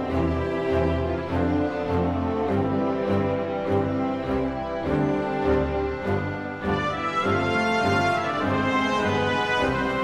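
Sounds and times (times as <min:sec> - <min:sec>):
orchestral background music: 0:00.0 - 0:10.0.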